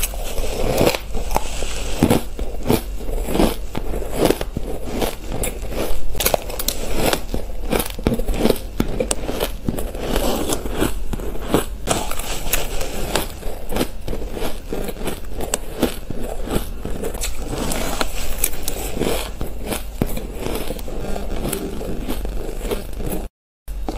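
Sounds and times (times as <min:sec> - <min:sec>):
shaved ice crunching: 0:00.0 - 0:23.3.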